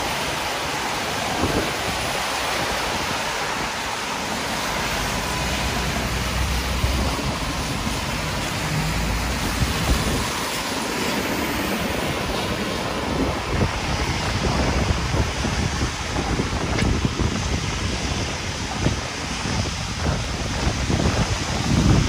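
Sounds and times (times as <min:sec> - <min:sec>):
heavy rain falling: 0:00.0 - 0:22.0
wind buffeting microphone: 0:00.0 - 0:22.0.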